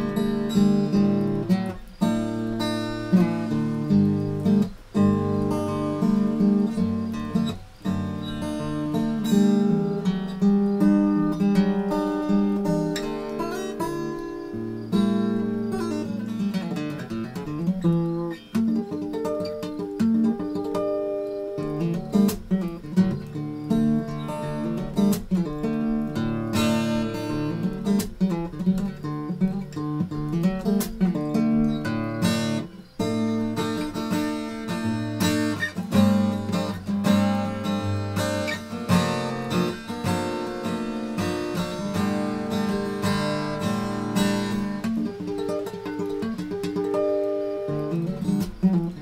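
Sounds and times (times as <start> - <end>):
acoustic guitar instrumental: 0.0 - 49.0.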